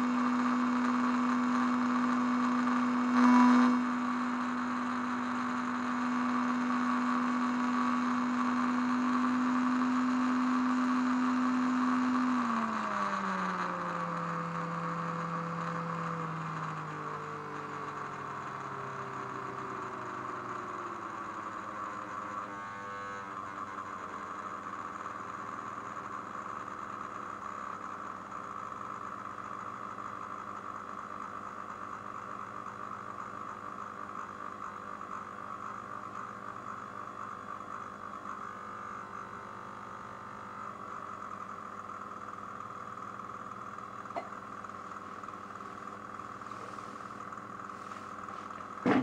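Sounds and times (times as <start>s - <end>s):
speakers giving steady tone: 0.0s - 30.4s, 31.7s - 49.0s.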